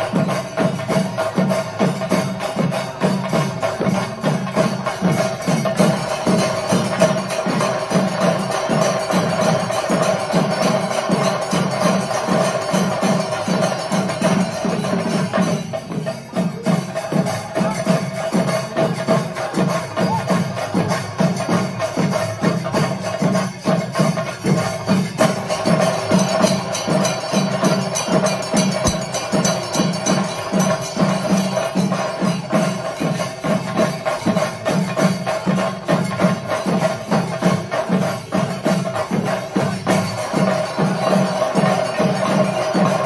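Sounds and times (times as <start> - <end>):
drums in fast rhythm: 0.0 - 43.0
hand cymbals ringing: 0.0 - 43.0.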